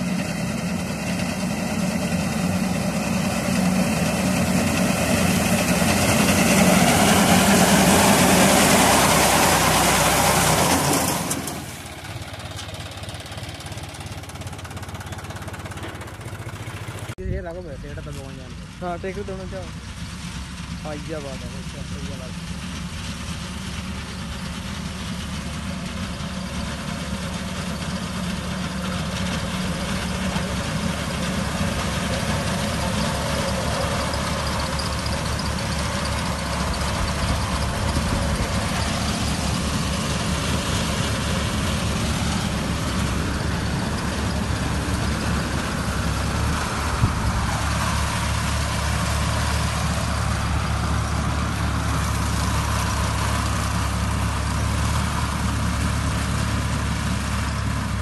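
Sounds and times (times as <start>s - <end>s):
reaper engine running: 0.0s - 58.0s.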